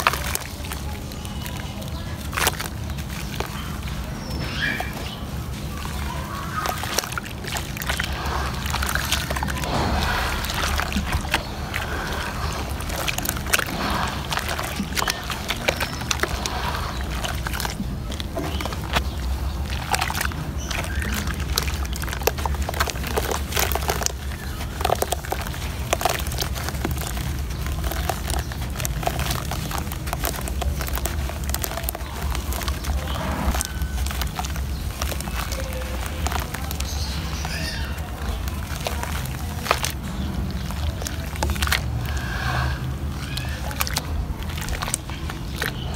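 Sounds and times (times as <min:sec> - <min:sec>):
small sharp crackles and clicks: 0:00.0 - 0:45.9
water sloshing: 0:00.0 - 0:45.9
wet mud squelching: 0:00.0 - 0:45.9.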